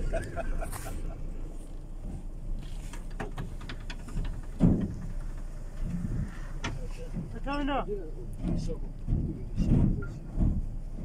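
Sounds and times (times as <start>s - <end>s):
bus rumbling in motion: 0.0s - 11.0s
faint rattles: 0.0s - 11.0s.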